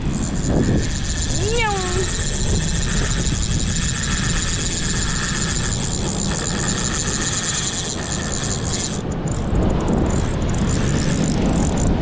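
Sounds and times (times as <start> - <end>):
faint high whirr: 0.0 - 12.0
wind buffeting microphone: 0.0 - 12.0.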